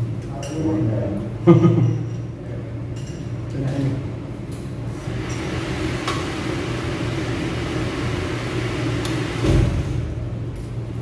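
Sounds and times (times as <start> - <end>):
ventilation machinery humming: 0.0 - 11.0.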